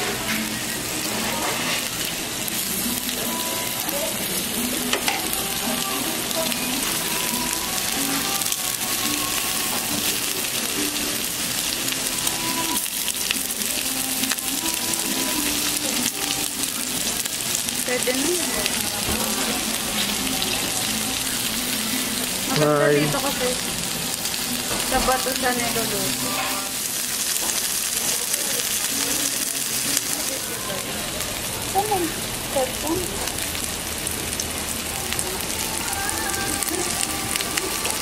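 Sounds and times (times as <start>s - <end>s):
pork sizzling on a grill plate: 0.0s - 38.0s.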